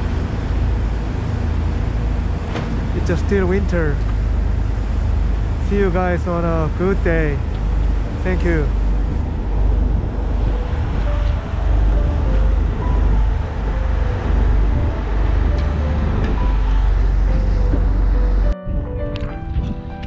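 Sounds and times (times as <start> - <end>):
water rushing along hull: 0.0 - 18.6
boat engine low rumble: 0.0 - 20.0
wind buffeting microphone: 0.0 - 20.0.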